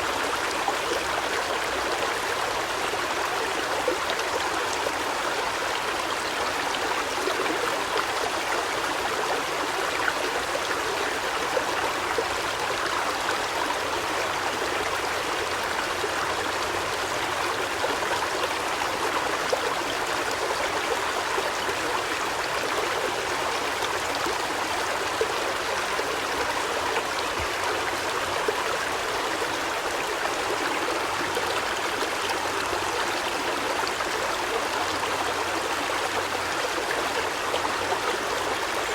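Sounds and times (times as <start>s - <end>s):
running water rushing and trickling: 0.0s - 38.9s.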